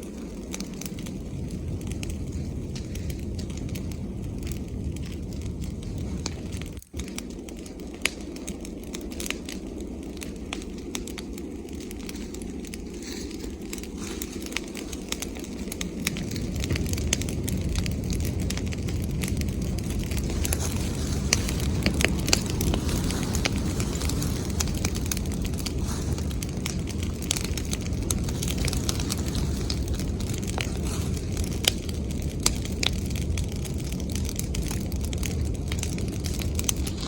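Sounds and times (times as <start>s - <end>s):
bonfire crackling: 0.0s - 37.0s
fire popping: 0.0s - 37.0s
low rumble: 0.0s - 37.0s.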